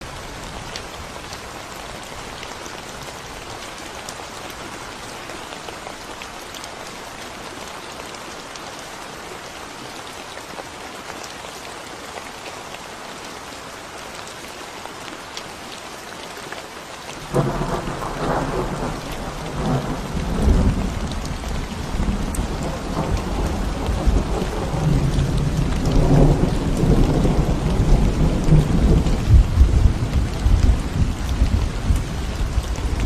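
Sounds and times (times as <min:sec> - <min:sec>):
rain falling on concrete: 0:00.0 - 0:33.0.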